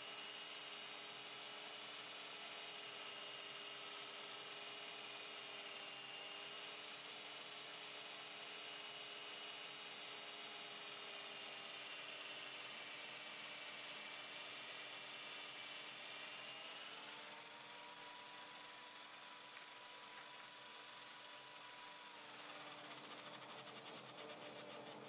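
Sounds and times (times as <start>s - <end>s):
electric drill sanding whine: 0.0s - 25.0s.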